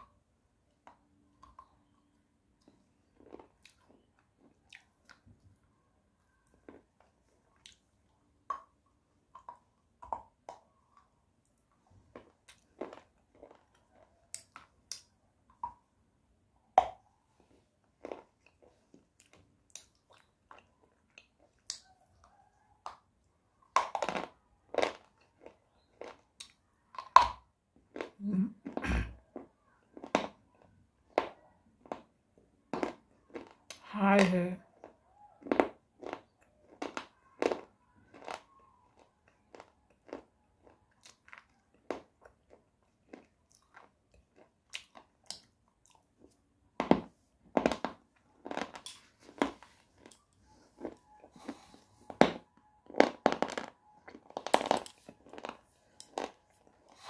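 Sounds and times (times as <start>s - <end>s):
crunching and chewing clay: 0.8s - 16.0s, 16.8s - 33.8s, 34.6s - 57.0s.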